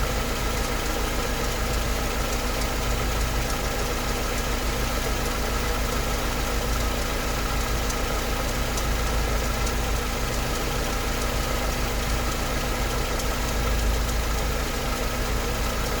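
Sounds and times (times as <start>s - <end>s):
car engine idling: 0.0s - 16.0s
rhythmic engine ticking: 0.0s - 16.0s.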